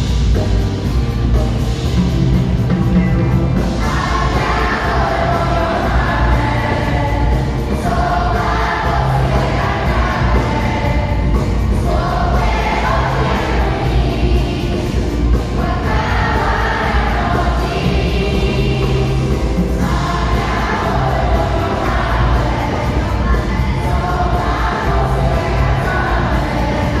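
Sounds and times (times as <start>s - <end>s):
live band playing: 0.0s - 27.0s
steady bass line: 0.0s - 27.0s
crowd singing a pop song: 3.6s - 27.0s.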